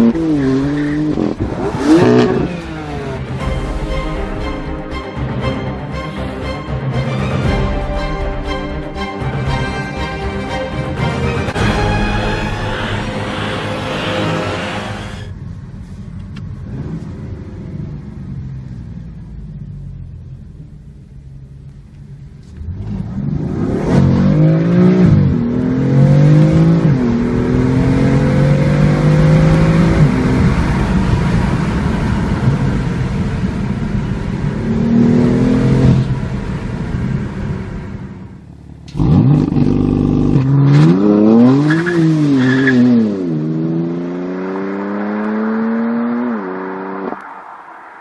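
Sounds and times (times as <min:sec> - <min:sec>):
car engine accelerating: 0:00.0 - 0:04.7, 0:10.0 - 0:48.0.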